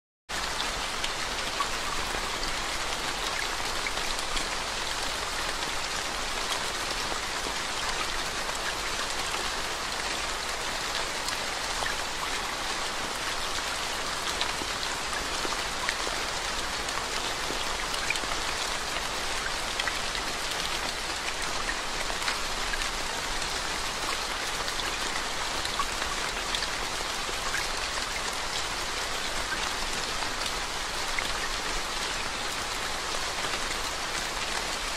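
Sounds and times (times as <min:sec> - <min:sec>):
rain falling into water: 0:00.3 - 0:34.9.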